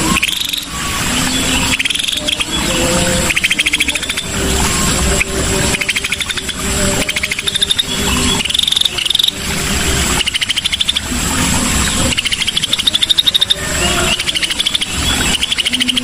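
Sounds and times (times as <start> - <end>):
bird rattling trills: 0.0 - 16.0.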